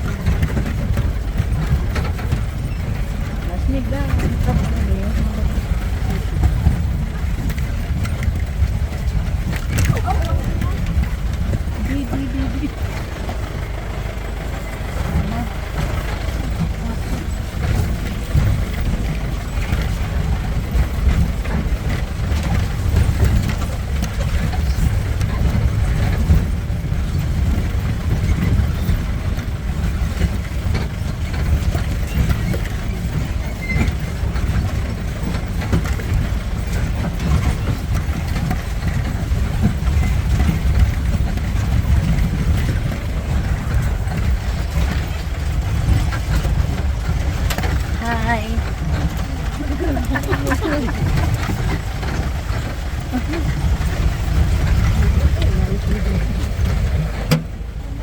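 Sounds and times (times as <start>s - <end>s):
jeep engine running: 0.0s - 58.0s
vehicle body rattling and knocking: 0.0s - 58.0s.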